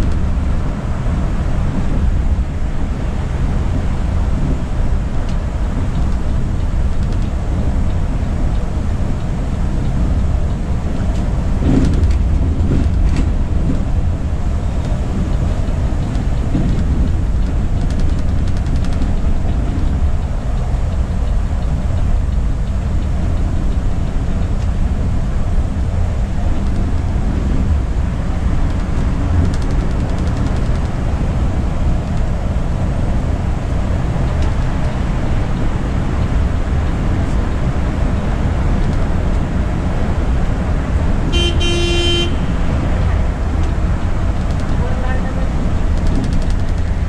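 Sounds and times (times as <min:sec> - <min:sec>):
coach engine and road rumble: 0:00.0 - 0:47.0.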